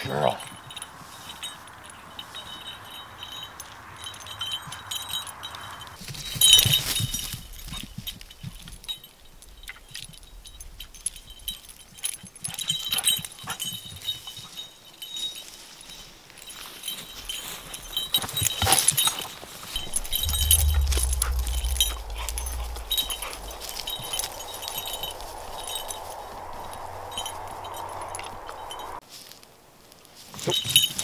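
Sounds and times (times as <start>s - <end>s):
dog collar jingling: 0.0s - 29.0s.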